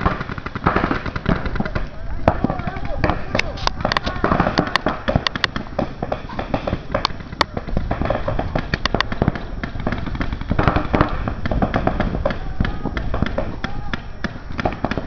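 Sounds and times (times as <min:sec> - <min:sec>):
paintball markers firing: 0:00.0 - 0:15.0.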